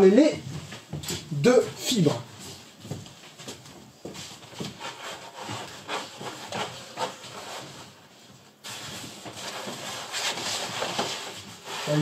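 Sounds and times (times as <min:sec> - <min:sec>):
wall-covering rustling and scraping: 0:00.2 - 0:12.0.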